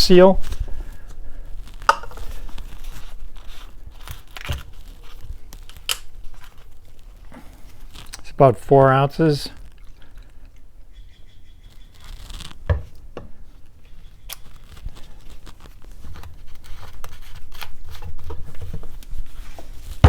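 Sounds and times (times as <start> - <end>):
rustling and scuffing: 0.0 - 8.4, 11.9 - 20.0.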